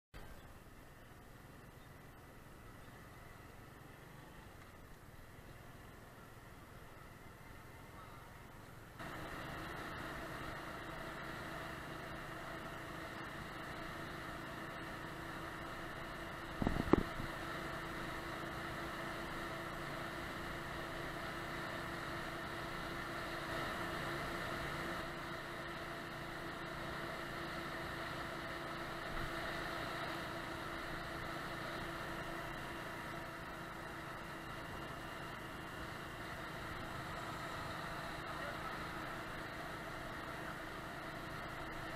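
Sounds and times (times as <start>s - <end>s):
motorcycle engine running steadily: 0.2s - 41.9s.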